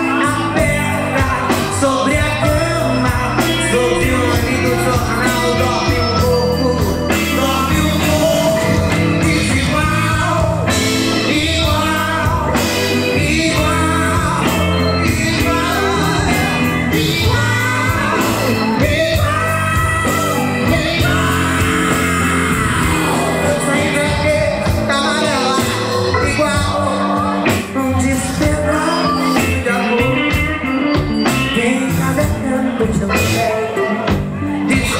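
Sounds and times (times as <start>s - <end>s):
live band playing: 0.0s - 34.9s
person singing: 0.0s - 34.9s.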